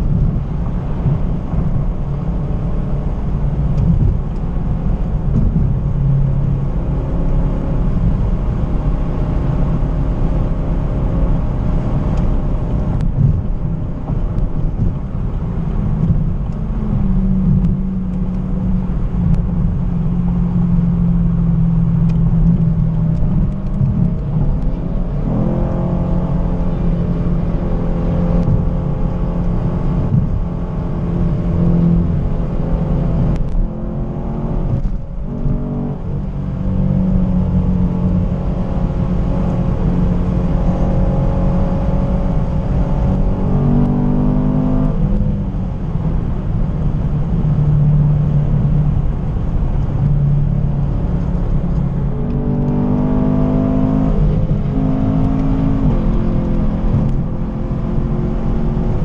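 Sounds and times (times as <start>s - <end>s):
car engine running: 0.0s - 59.0s
road rumble: 0.0s - 59.0s.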